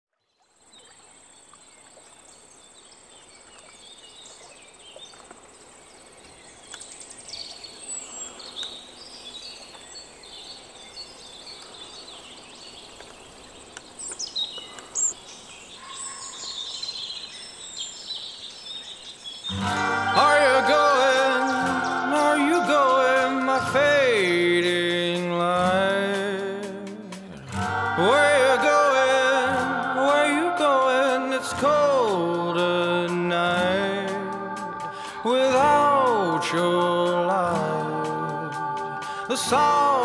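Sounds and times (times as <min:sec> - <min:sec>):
birds chirping and calling: 0:02.3 - 0:25.7, 0:27.5 - 0:40.0.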